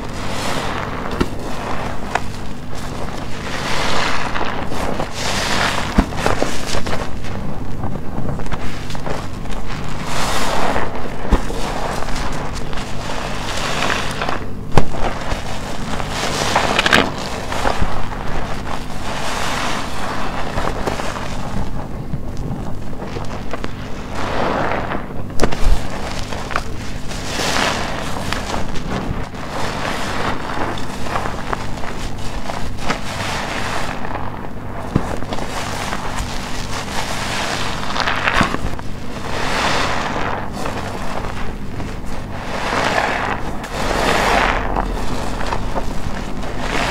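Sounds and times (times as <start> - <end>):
sponge squelching with soap foam: 0.0 - 46.9.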